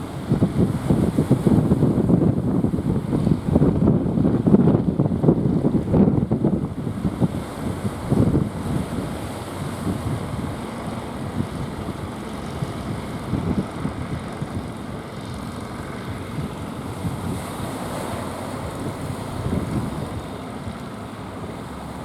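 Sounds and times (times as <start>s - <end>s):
rush of surf: 0.0s - 22.0s
strong wind buffeting microphone: 0.0s - 22.0s.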